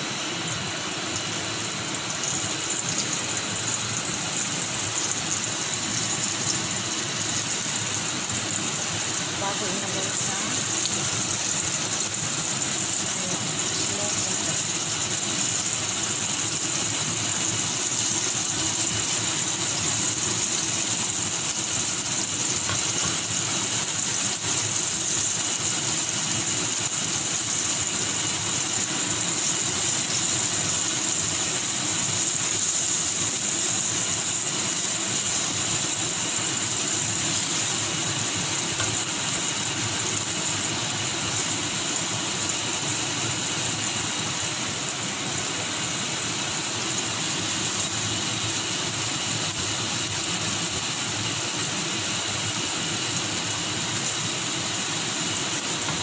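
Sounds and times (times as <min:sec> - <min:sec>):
meat sizzling in oil: 0:00.0 - 0:56.0.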